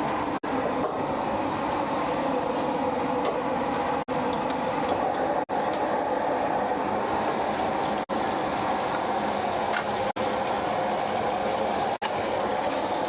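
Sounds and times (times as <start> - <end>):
food frying in wok: 0.0 - 13.0
stove burner roar: 0.0 - 13.0.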